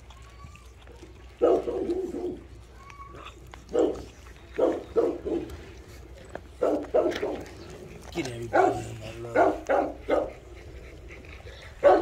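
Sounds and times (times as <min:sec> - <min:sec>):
puppies vocalizing: 0:00.0 - 0:12.0.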